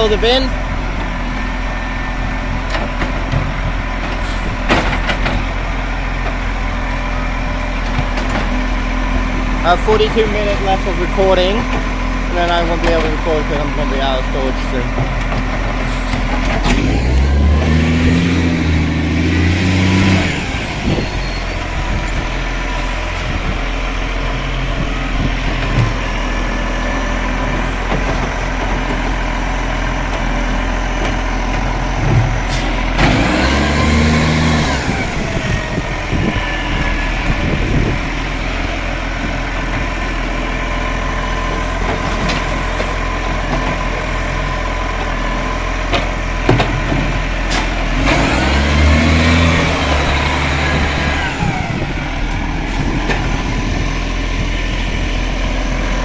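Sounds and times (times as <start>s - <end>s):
garbage truck engine running: 0.0s - 56.0s.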